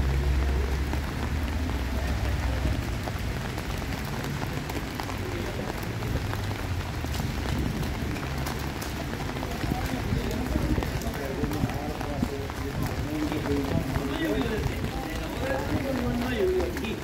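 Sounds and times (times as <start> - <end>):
rain on wet paving: 0.0 - 17.0.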